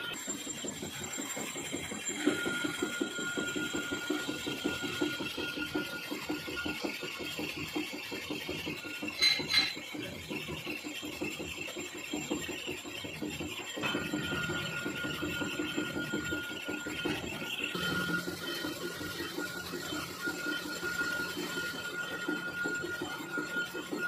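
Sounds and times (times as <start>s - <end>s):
metal lathe humming: 0.0s - 24.0s.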